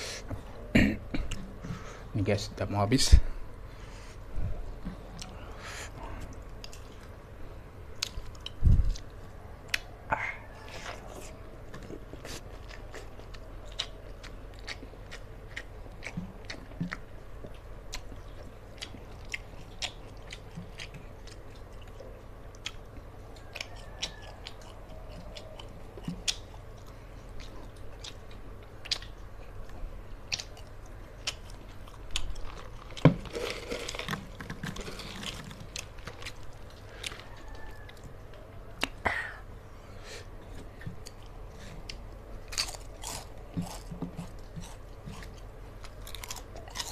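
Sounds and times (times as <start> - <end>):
chewing and crunching food: 4.1 - 39.0, 40.2 - 46.9.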